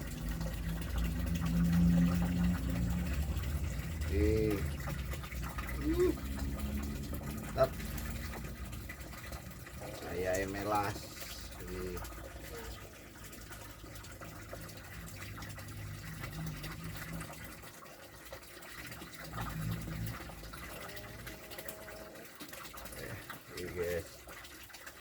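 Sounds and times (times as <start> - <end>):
water running and splashing: 0.0 - 25.0.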